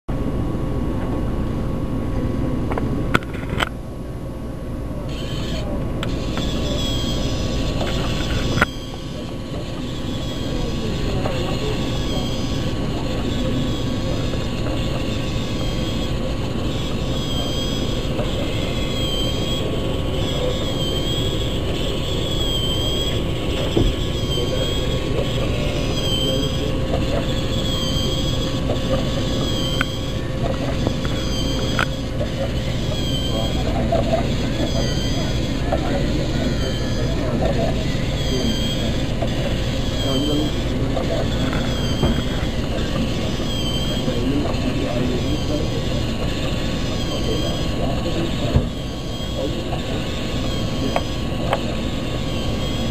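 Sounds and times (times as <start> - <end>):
short squeak: 5.1 - 52.9
toy motor and gears whirring: 5.1 - 52.9.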